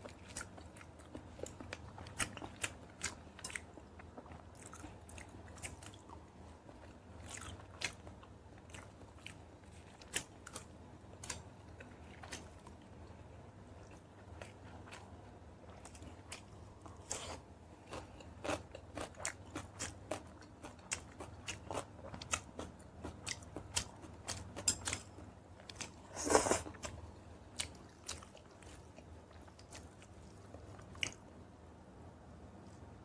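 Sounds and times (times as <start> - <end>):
person chewing crunchy food: 0.0 - 31.3.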